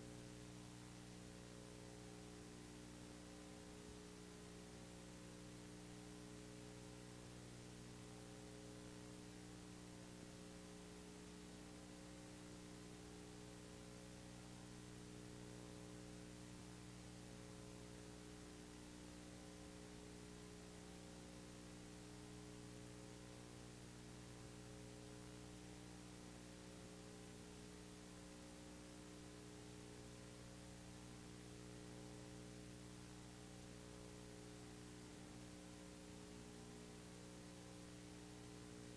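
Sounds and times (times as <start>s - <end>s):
faint tape hiss: 0.0s - 38.9s
low electrical hum: 0.0s - 38.9s.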